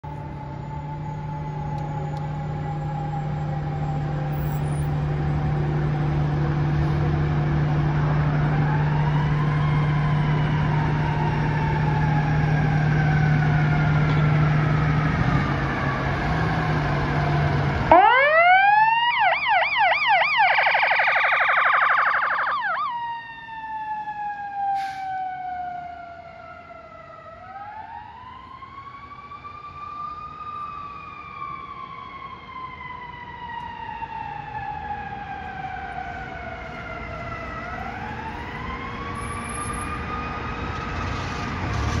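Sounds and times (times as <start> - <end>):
fire engine siren: 0.0 - 42.0.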